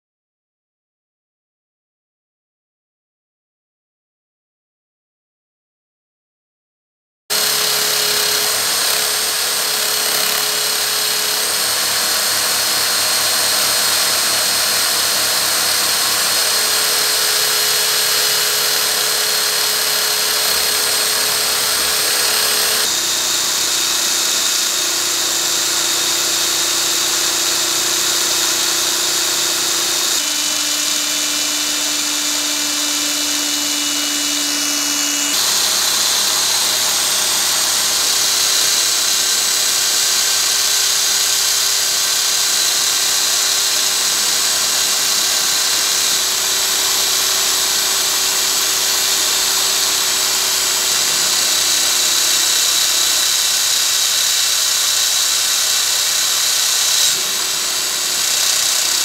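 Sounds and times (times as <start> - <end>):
electric drill whining: 7.3 - 59.0.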